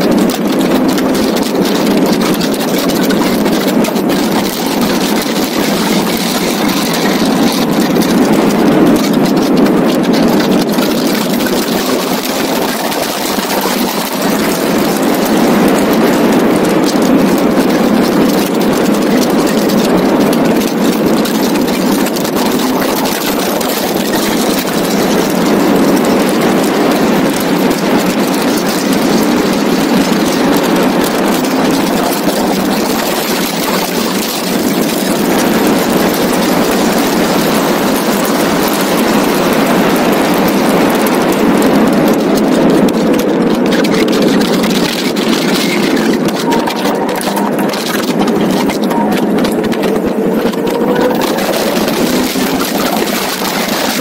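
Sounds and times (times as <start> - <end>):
car engine pulling hard: 0.0 - 54.0
wind rush: 0.0 - 54.0.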